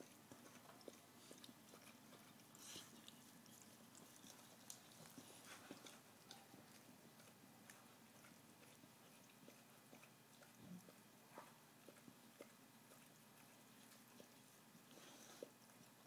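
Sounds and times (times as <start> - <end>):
dog licking: 0.0 - 16.0.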